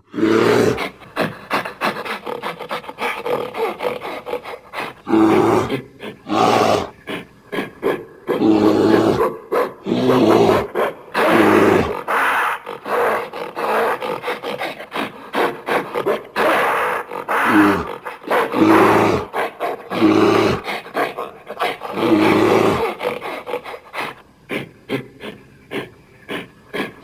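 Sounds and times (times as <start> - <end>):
creature growls and roars: 0.0 - 27.0.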